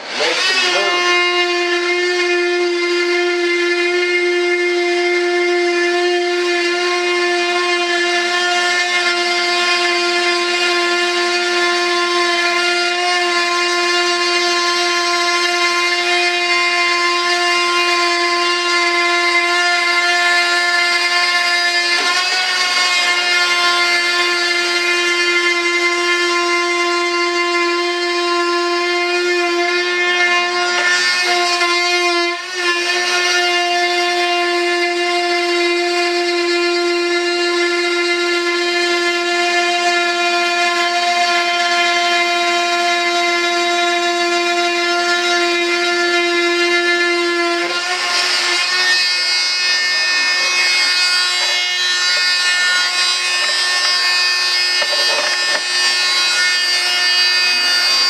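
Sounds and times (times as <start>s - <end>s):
rotary tool high-pitched whine: 0.0s - 58.0s.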